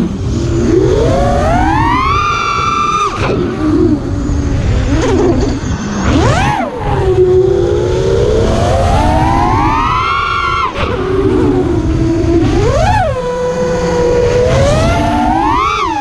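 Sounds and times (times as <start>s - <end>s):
low rumble: 0.0s - 15.6s
drone propellers whining: 0.0s - 16.0s.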